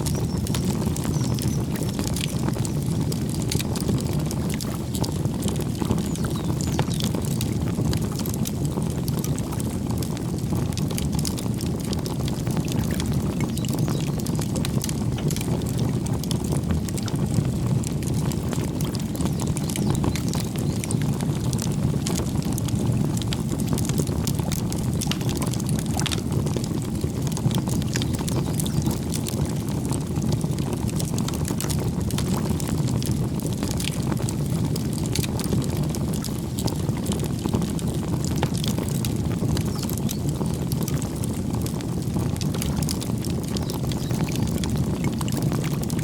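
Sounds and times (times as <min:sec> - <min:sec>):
low rumble of flames: 0:00.0 - 0:46.0
wood crackles and pops: 0:00.0 - 0:46.0.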